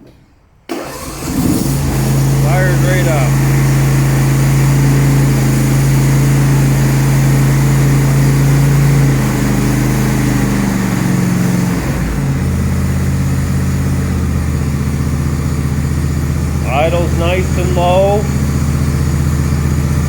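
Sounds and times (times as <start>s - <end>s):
lawn tractor engine running: 0.7s - 20.0s.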